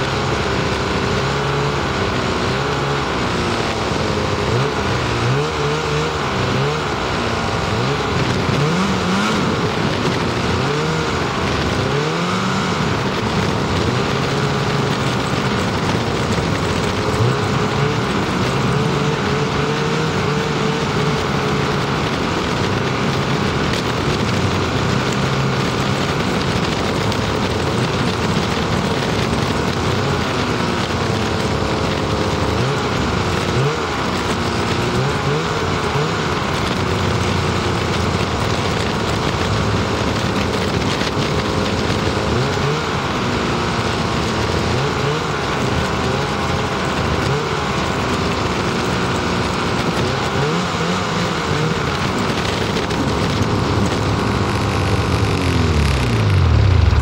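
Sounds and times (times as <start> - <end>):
snowmobile engine running: 0.0 - 57.0
steady rushing noise: 0.0 - 57.0.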